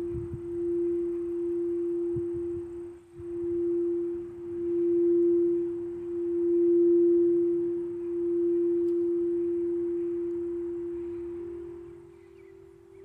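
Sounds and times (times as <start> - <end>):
higher singing bowl tone: 0.0 - 13.0
singing bowl tone: 0.0 - 13.0.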